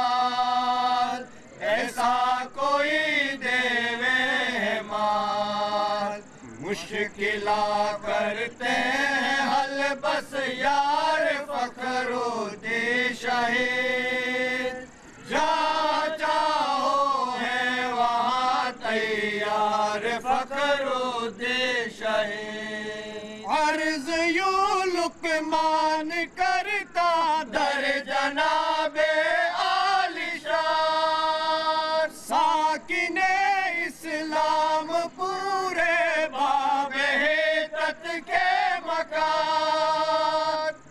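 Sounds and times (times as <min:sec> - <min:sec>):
men chanting: 0:00.0 - 0:40.9.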